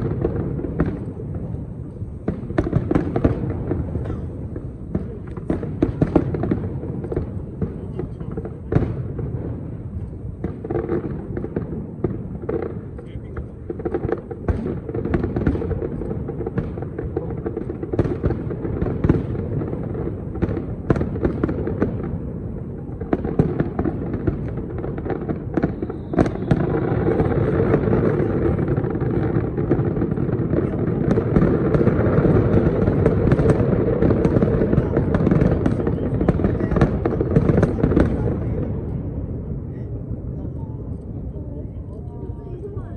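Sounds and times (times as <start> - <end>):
fireworks bursting: 0.0 - 42.9
fireworks rumble and crackle: 0.0 - 42.9.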